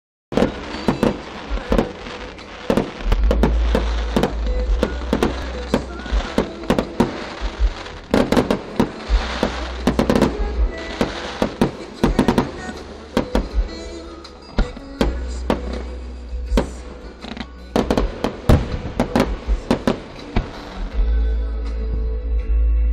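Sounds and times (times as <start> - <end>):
firework shells bursting: 0.3 - 16.0, 16.6 - 20.9
fireworks crackling: 0.3 - 21.0.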